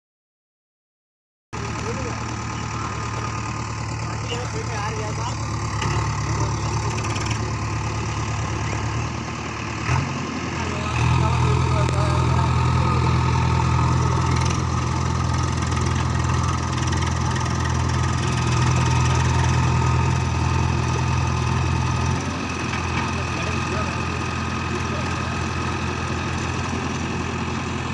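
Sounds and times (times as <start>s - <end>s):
tractor diesel engine running: 1.6s - 27.9s.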